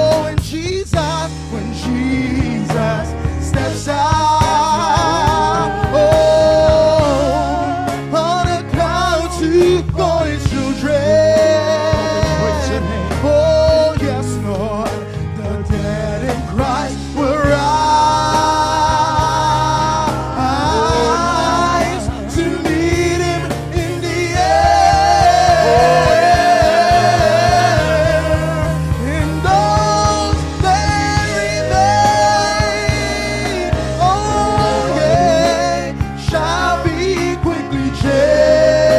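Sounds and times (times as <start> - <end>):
instrumental accompaniment: 0.0 - 38.9
person singing gospel: 0.0 - 38.9.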